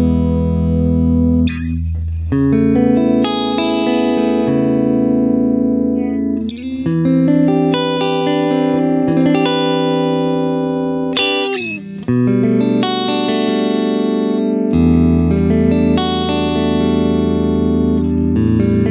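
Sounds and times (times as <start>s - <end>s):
clean electric guitar chords: 0.0s - 18.9s.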